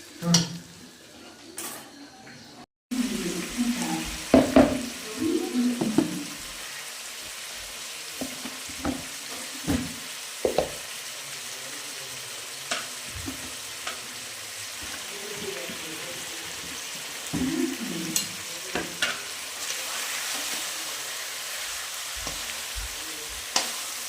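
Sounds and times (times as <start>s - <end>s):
chicken sizzling in hot oil: 2.9s - 24.0s.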